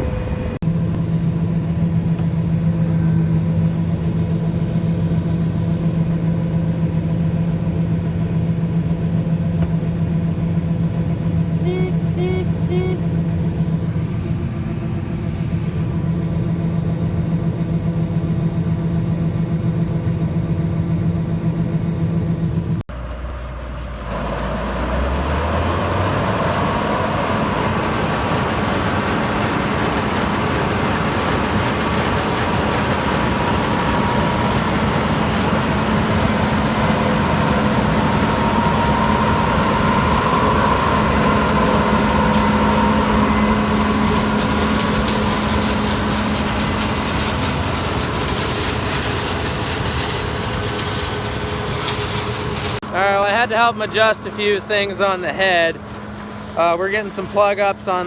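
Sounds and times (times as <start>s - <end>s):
diesel farm machinery running: 0.0s - 58.0s
machine engine with high whine: 0.0s - 58.0s.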